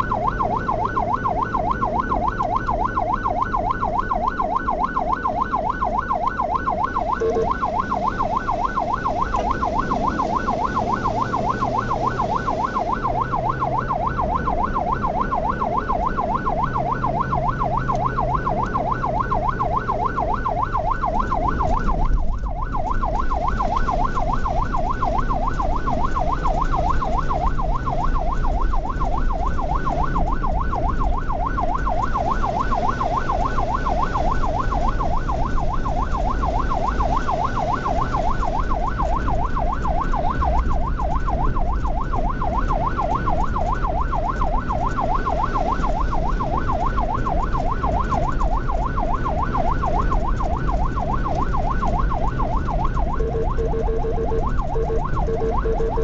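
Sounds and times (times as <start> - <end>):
ambulance siren yelping: 0.0 - 56.0
engine and road rumble: 0.0 - 56.0.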